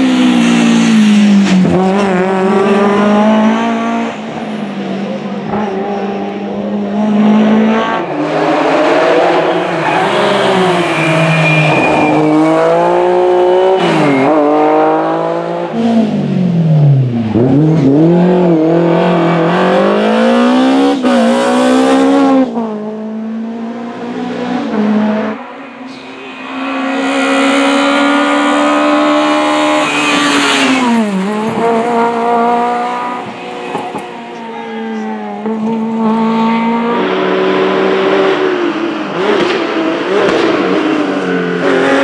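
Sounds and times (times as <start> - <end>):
second car engine at high revs: 0.0 - 34.5, 35.3 - 42.0
rally car engine revving: 0.0 - 42.0.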